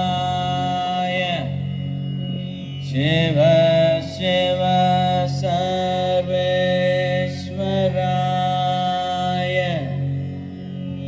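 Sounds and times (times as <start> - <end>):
person chanting long notes: 0.0 - 11.0
steady drone: 0.0 - 11.0.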